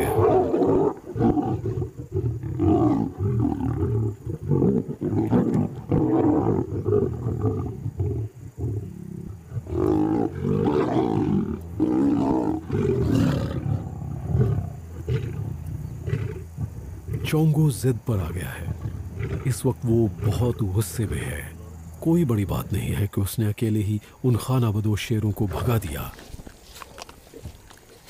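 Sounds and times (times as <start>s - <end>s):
lions growling and roaring: 0.0s - 23.1s.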